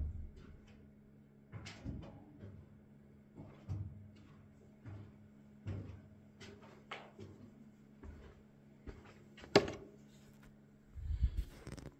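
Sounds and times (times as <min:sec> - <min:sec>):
faint low hum: 0:00.0 - 0:11.9.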